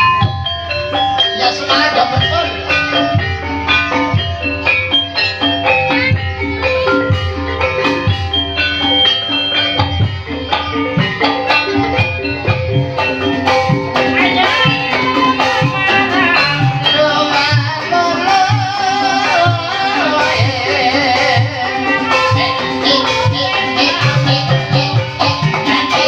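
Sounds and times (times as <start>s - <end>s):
drum strokes: 0.0s - 26.0s
struck metallophones: 0.0s - 26.0s
wavering sung melody: 0.0s - 26.0s.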